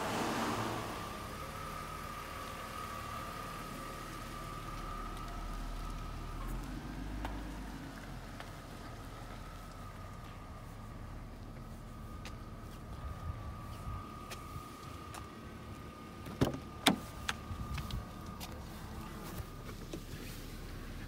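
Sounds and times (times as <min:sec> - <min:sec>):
car engine rumbling at low speed: 0:00.0 - 0:21.0.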